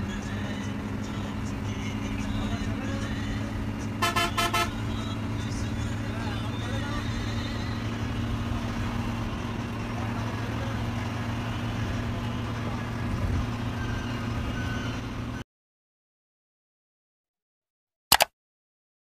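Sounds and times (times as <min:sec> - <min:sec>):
bus engine drone: 0:00.0 - 0:15.4
road and wind noise: 0:00.0 - 0:15.4.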